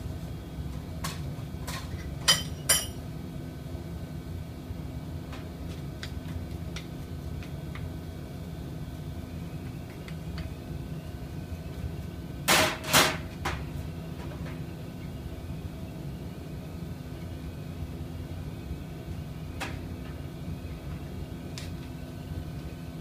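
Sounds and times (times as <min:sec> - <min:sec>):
workshop machinery hum: 0:00.0 - 0:23.0.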